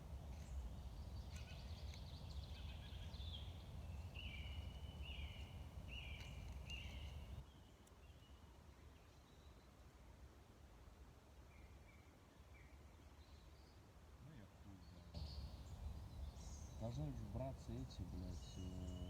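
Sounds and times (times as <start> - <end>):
songbird singing: 0.0 - 9.8, 11.5 - 13.9, 14.5 - 19.0.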